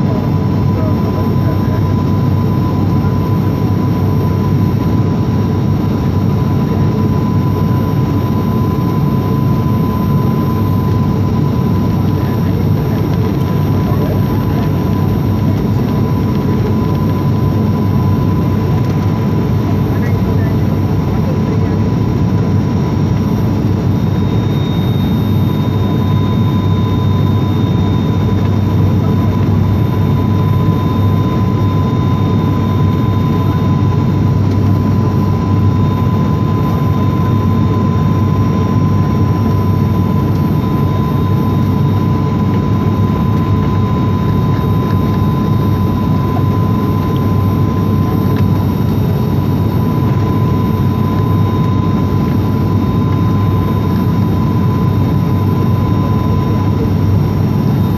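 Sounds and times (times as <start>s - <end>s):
aircraft engine drone: 0.0s - 57.9s
high whine: 0.0s - 57.9s.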